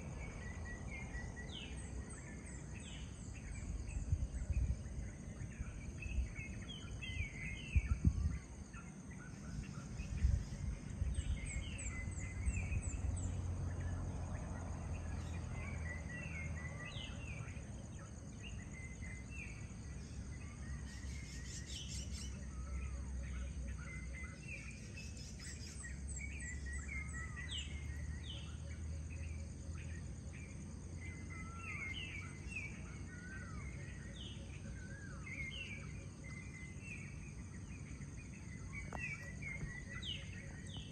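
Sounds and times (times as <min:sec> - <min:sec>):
insect trill: 0:00.0 - 0:40.9
small birds chirping: 0:00.0 - 0:40.9.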